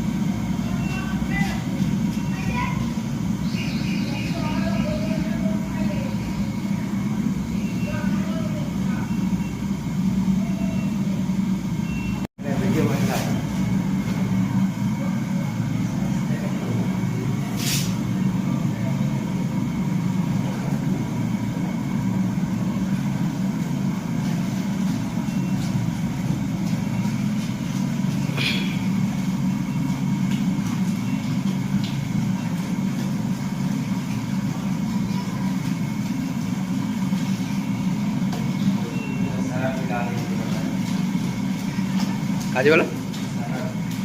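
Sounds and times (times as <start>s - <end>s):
low machine drone: 0.0s - 44.0s.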